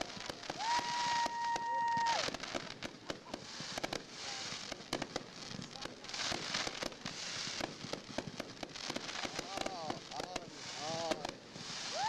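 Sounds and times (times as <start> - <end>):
fireworks crackling and popping: 0.0 - 12.0
fireworks hissing: 0.0 - 12.0.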